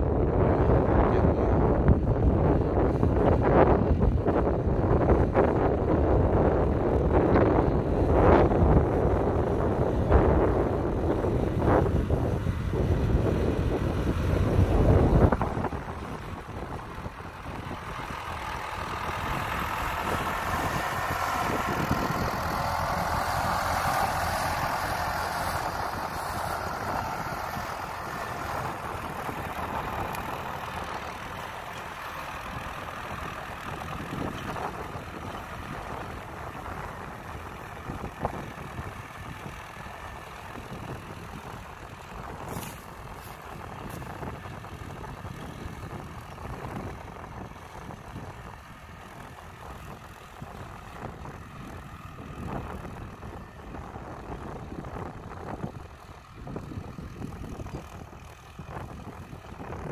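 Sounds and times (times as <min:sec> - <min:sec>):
tractor diesel engine under load: 0:00.0 - 0:59.9
wind buffeting microphone: 0:00.0 - 0:59.9.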